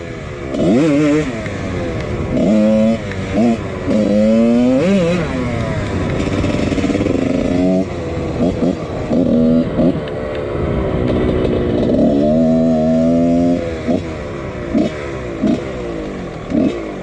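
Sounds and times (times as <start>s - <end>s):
dirt bike engine revving: 0.0s - 10.2s, 10.9s - 17.0s.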